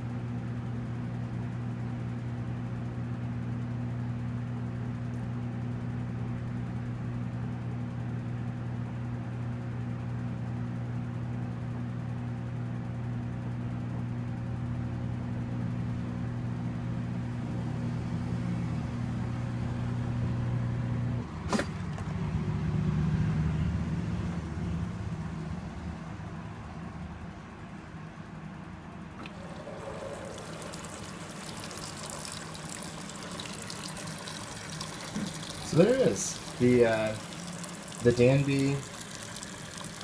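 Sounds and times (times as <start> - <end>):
washer motor hum: 0.0 - 40.0.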